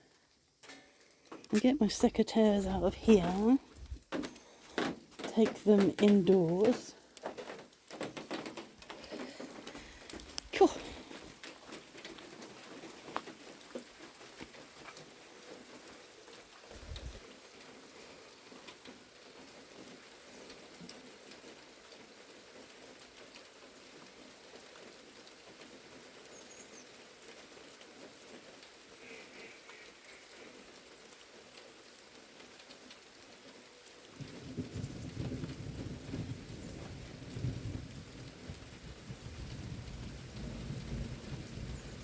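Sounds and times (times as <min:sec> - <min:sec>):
light rain falling: 0:00.0 - 0:42.0.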